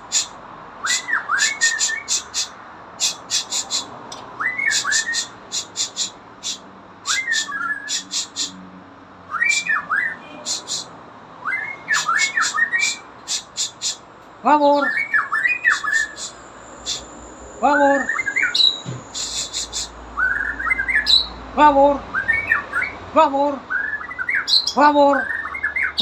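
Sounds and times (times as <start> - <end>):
songbird chirping: 0.0 - 8.6, 9.3 - 26.0.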